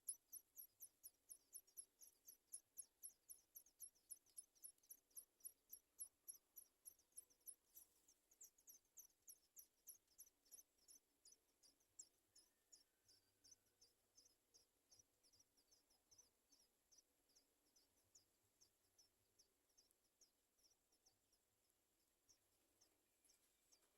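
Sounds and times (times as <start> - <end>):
nestlings chirping: 0.0 - 21.4.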